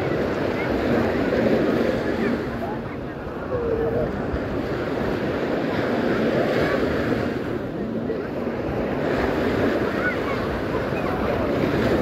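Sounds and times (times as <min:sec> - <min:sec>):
small waves breaking on beach: 0:00.0 - 0:12.0
wind noise on microphone: 0:00.0 - 0:12.0.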